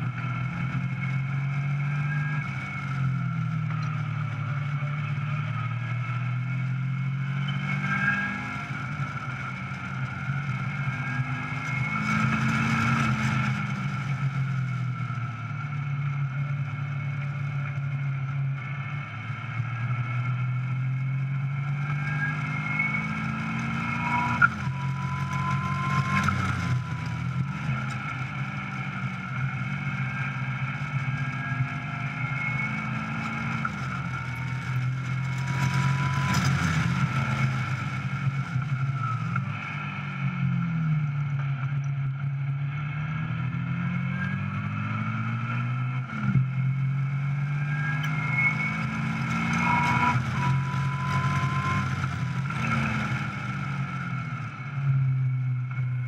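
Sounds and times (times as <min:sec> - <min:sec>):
car engine revving through gears: 0:00.0 - 0:17.5, 0:19.3 - 0:40.6, 0:42.7 - 0:54.7.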